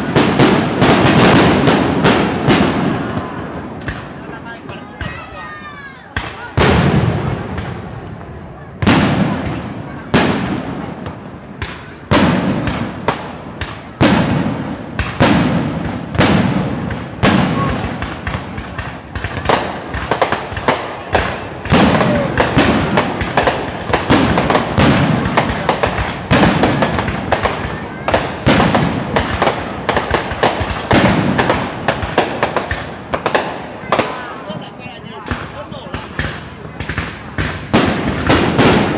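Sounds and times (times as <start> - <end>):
fireworks bursting: 0.0 - 38.9
fireworks crackling: 0.0 - 38.9.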